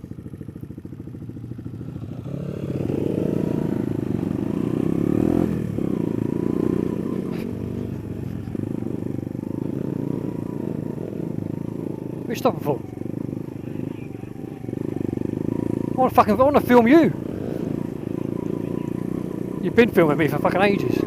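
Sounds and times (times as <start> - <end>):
motorcycle engine accelerating: 0.0 - 21.0
gear change: 2.5 - 21.0.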